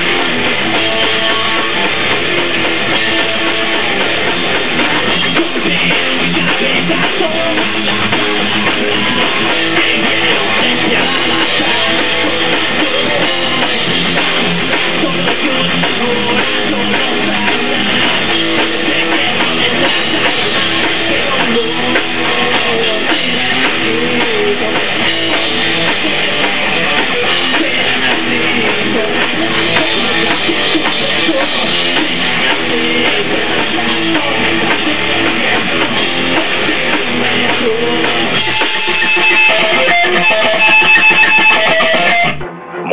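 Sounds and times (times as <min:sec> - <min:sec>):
drum kit playing: 0:00.0 - 0:42.9
electric guitar: 0:00.0 - 0:42.9.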